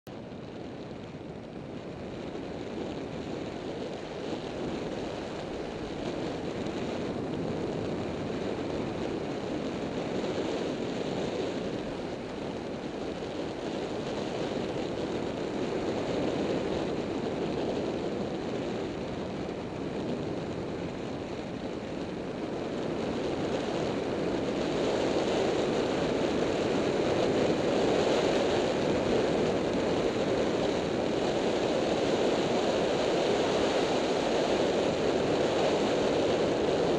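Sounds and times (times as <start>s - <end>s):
wind rushing over microphone: 0.1s - 36.9s.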